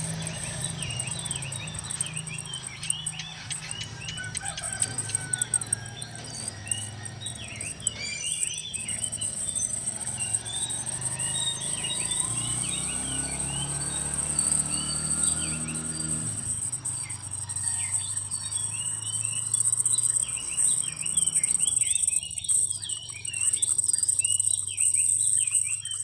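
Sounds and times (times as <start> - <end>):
birds chirping: 0.0 - 26.0
insects buzzing: 0.0 - 26.0.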